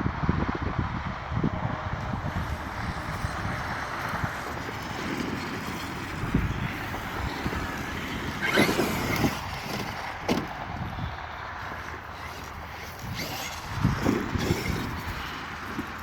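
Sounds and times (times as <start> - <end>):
toy truck motor and tyres rushing: 0.8 - 16.0
truck bouncing knocks: 2.4 - 16.0.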